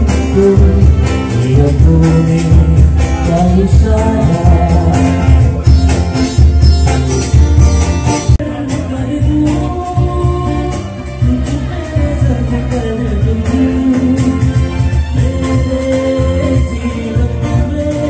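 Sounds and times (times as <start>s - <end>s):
person singing: 0.0s - 7.0s, 8.1s - 18.0s
bass beat: 0.0s - 18.0s
guitar: 0.0s - 18.0s.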